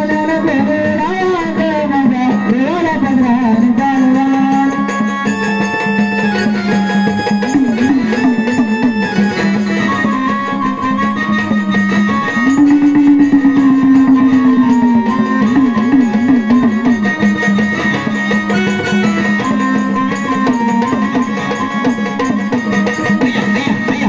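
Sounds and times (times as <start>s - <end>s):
wavering held melody with trills: 0.0s - 24.0s
steady fast drumming: 0.1s - 24.0s.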